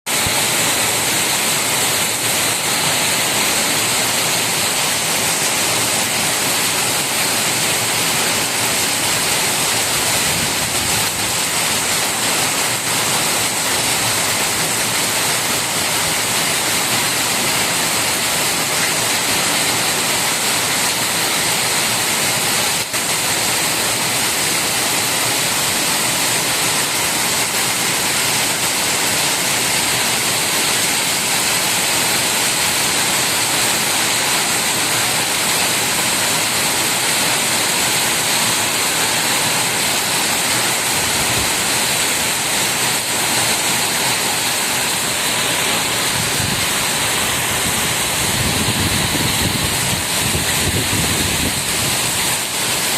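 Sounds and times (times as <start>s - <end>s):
rain falling: 0.1s - 52.9s.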